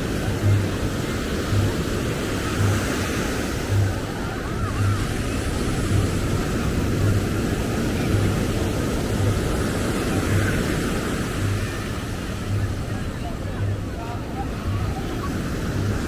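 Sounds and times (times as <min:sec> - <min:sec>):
surf: 0:00.0 - 0:16.0
wind on microphone: 0:00.0 - 0:16.0.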